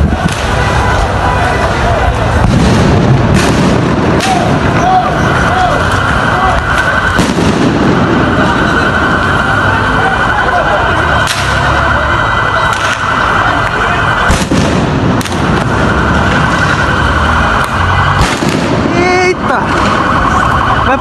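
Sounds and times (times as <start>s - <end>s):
crowd shouting: 0.0s - 21.0s
sharp bangs: 0.0s - 21.0s.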